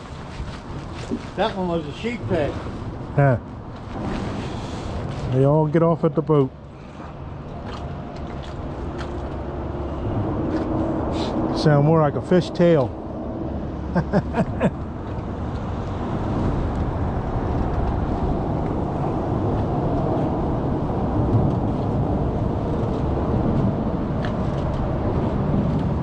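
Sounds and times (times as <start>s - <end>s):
steady low outdoor rumble: 0.0s - 26.0s.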